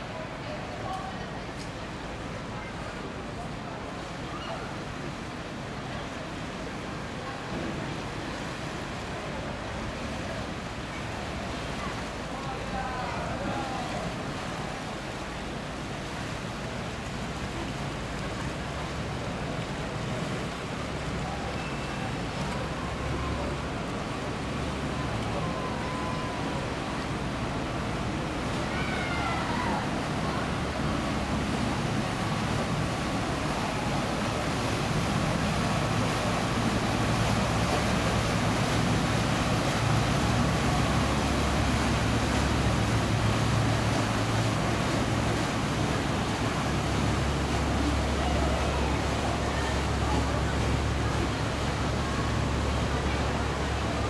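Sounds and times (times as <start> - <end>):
boat engine rumble: 0.0 - 54.0
water churning along hull: 0.0 - 54.0.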